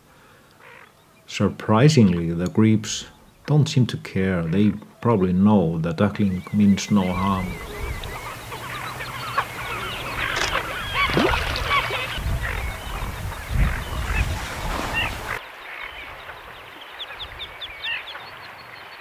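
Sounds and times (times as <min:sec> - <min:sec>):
waterbirds calling: 0:00.0 - 0:19.0.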